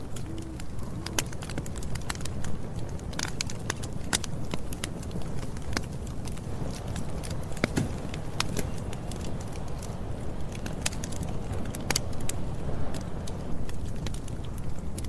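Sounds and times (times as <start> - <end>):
low fire rumble: 0.0 - 15.0
wood crackling in fire: 0.0 - 15.0.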